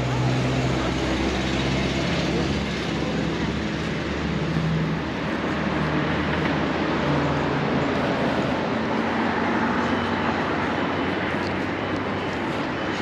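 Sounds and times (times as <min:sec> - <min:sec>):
engines humming: 0:00.0 - 0:13.0
road traffic noise: 0:00.0 - 0:13.0.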